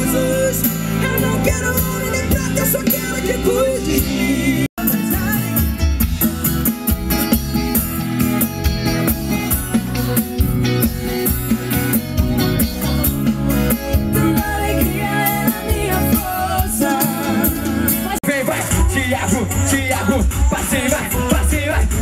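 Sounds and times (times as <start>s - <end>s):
live band playing amplified music: 0.0s - 22.0s.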